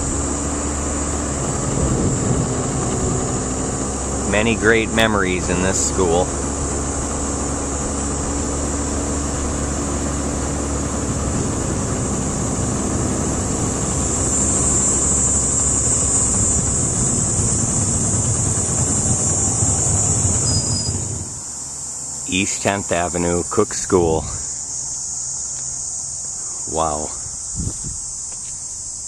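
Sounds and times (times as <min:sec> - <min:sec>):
insects chirring: 0:00.0 - 0:29.0
low vehicle rumble: 0:00.0 - 0:29.0.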